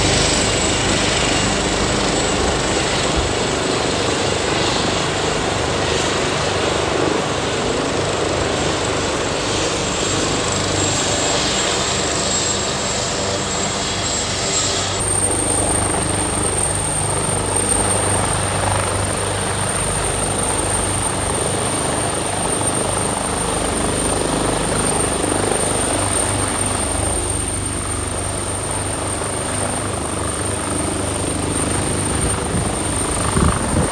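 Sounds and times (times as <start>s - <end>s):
helicopter engine and rotor: 0.0s - 33.9s.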